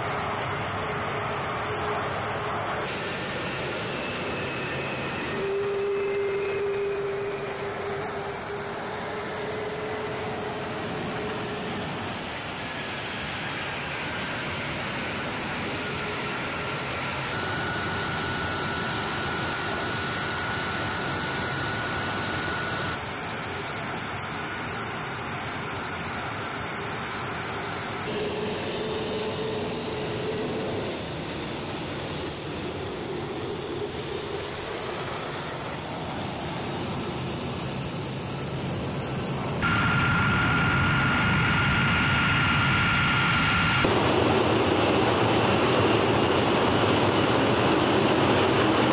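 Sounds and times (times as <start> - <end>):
jet engines running: 0.0 - 48.9.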